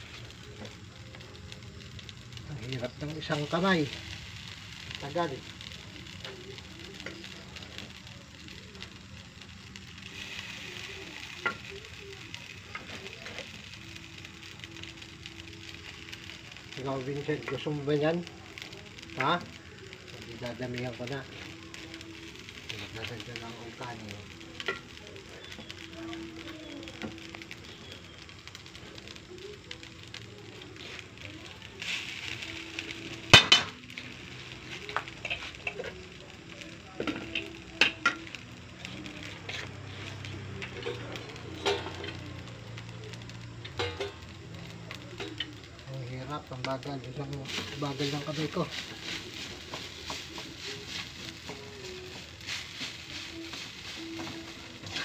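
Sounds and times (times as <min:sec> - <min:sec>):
rice sizzling in a wok: 0:00.0 - 0:55.0.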